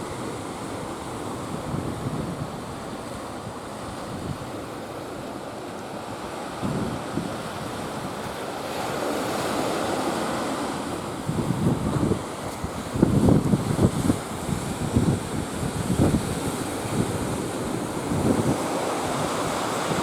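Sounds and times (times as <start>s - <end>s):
wind buffeting microphone: 0.0s - 5.2s, 6.5s - 8.8s, 10.3s - 20.0s
ocean surf breaking: 0.0s - 20.0s.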